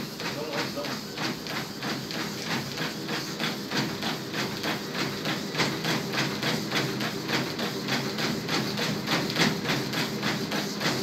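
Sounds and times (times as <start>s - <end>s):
bare feet on treadmill belt: 0.0s - 11.0s
treadmill low hum: 0.0s - 11.0s.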